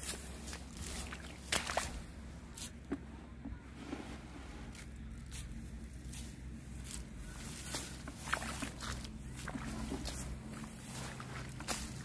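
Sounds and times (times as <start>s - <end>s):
dry straw crackling underfoot: 0.0s - 12.0s.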